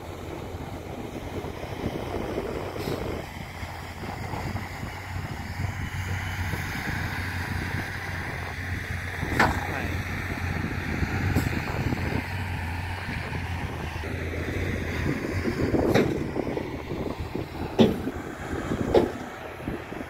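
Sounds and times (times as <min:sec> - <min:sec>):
diesel engine running under load: 0:00.0 - 0:20.0
wind rumbling on microphone: 0:00.0 - 0:20.0.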